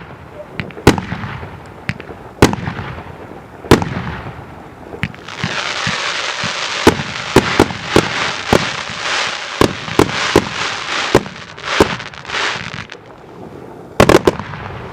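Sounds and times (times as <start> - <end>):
fireworks bangs: 0.0 - 14.9
fireworks hissing crackle: 0.0 - 14.9.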